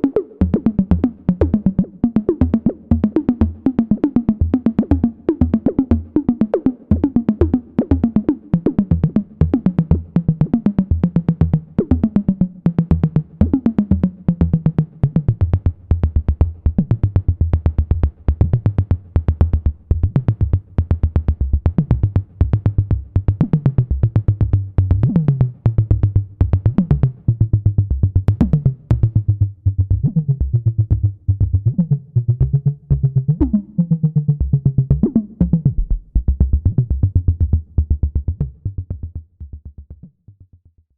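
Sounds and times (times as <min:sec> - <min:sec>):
synthesizer sequenced notes: 0:00.0 - 0:39.8
low synth bass: 0:00.0 - 0:40.9.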